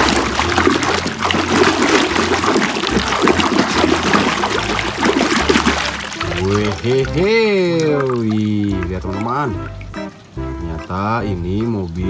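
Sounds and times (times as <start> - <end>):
wet squelching and sloshing: 0.0 - 10.9.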